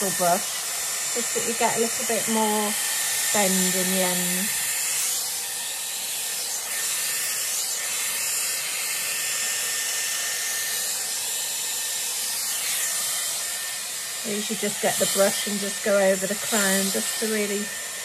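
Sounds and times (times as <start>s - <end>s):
hair styler blowing air: 0.0s - 18.0s.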